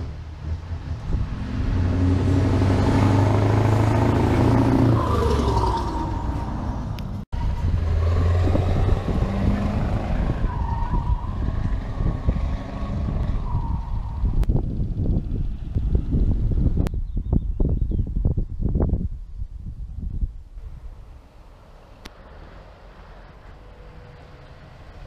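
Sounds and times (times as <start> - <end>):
diesel truck passing at speed: 0.0 - 16.8, 21.0 - 25.0
wind buffeting microphone: 0.4 - 21.2.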